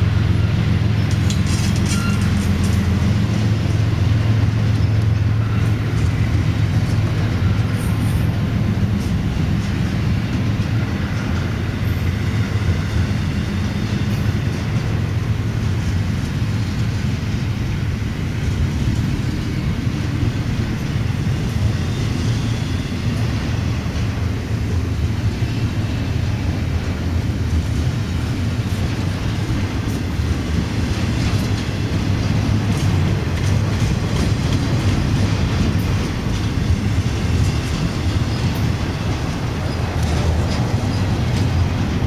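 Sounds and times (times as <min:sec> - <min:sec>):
steel train wheels rumbling on rails: 0:00.0 - 0:42.0.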